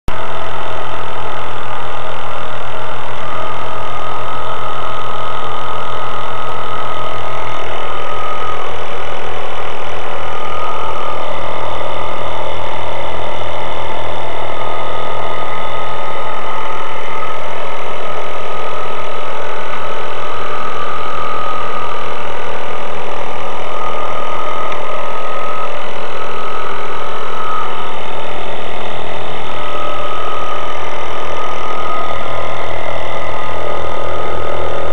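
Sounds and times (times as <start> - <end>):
motor throbbing and whining: 0.1 - 34.9.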